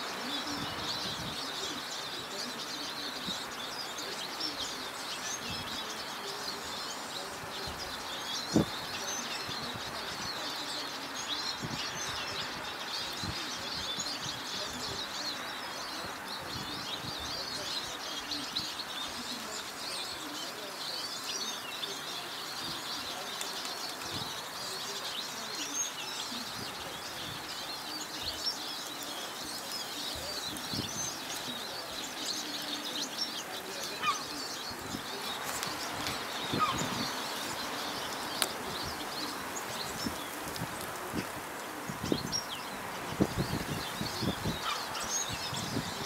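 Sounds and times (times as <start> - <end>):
songbirds chirping and singing: 0.0 - 46.0.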